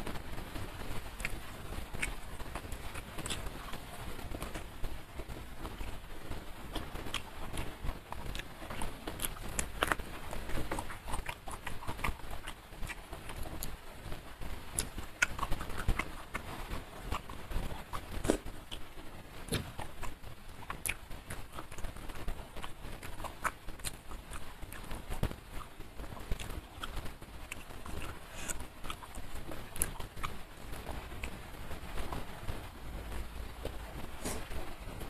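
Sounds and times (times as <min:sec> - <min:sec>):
wet chewing and lip-smacking: 0:00.1 - 0:34.8.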